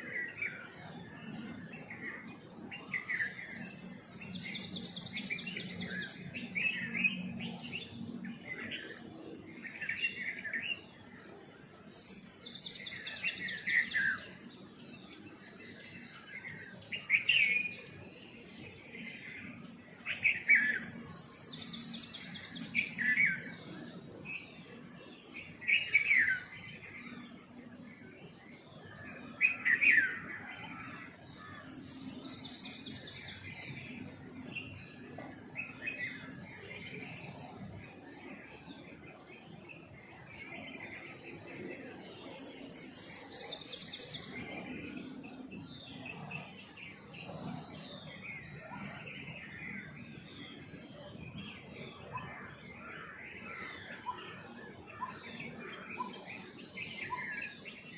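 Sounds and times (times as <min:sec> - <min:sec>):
birds chirping and calling: 0:00.0 - 0:57.9.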